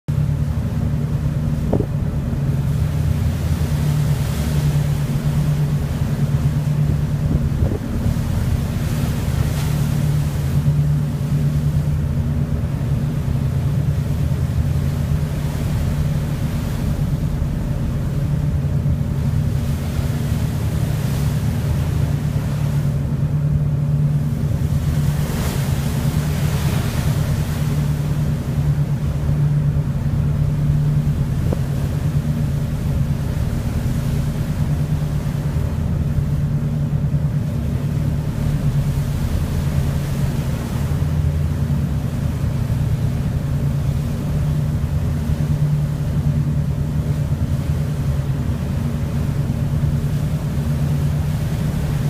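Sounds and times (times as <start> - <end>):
bow wave rushing and splashing: 0.1 - 52.0
low machinery hum: 0.1 - 52.0
wind buffeting microphone: 0.3 - 52.0.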